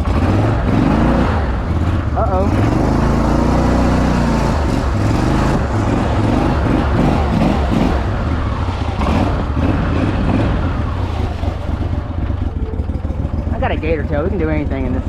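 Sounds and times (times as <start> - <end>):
boat motor running hard: 0.0 - 15.0.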